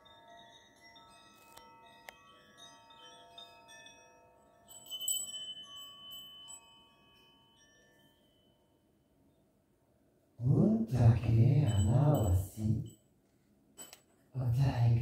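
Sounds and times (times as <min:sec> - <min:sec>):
chime tinkling: 0:00.0 - 0:09.5, 0:10.5 - 0:13.0.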